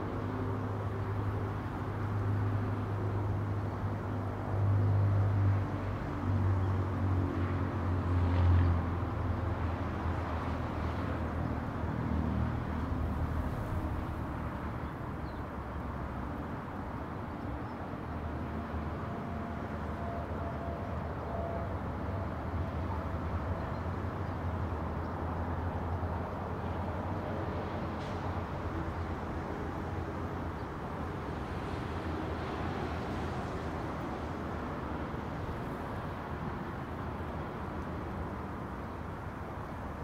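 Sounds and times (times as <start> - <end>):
distant road traffic: 0.0 - 40.0
low engine rumble of passing vehicles: 0.0 - 40.0
wind: 0.0 - 40.0.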